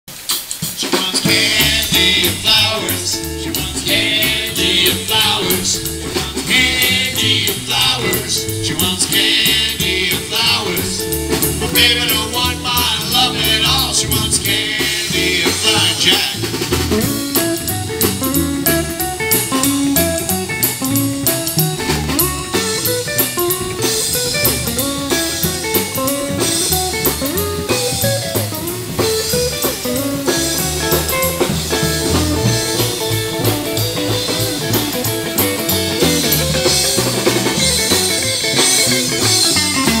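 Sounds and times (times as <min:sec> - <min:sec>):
drum kit beat: 0:00.1 - 0:40.0
rockabilly band playing: 0:00.1 - 0:40.0
bass guitar: 0:01.1 - 0:40.0
guitar picking notes: 0:01.3 - 0:40.0.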